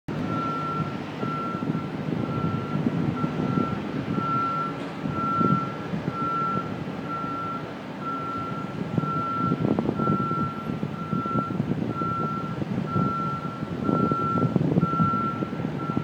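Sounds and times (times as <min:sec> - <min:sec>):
low rumble of machinery: 0:00.1 - 0:16.0
reversing alarm beeping: 0:00.2 - 0:16.0.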